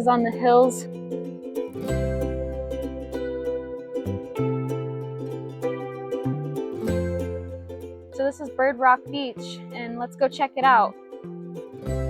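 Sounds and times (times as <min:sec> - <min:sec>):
plucked string tune: 0:00.0 - 0:12.0.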